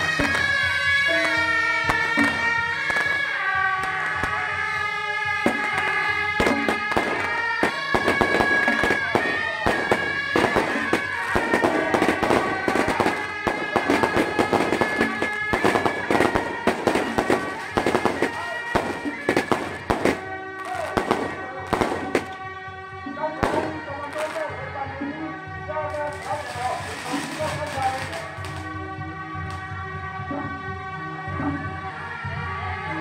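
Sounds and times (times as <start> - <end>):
firecrackers popping: 0.0 - 22.5, 23.4 - 24.6, 25.9 - 28.8, 29.5 - 29.7
reedy wind instrument music: 0.0 - 33.0.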